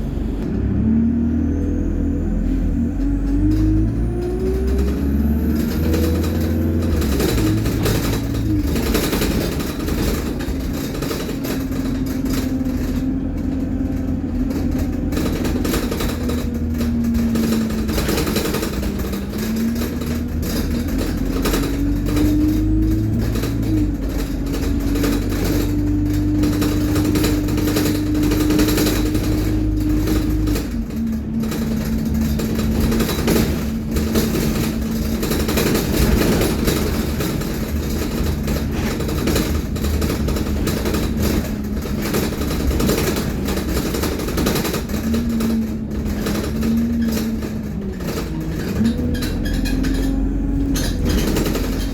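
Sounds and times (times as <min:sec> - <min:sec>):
bus engine rumble: 0:00.0 - 0:51.9
bus turbo whine: 0:00.0 - 0:51.9.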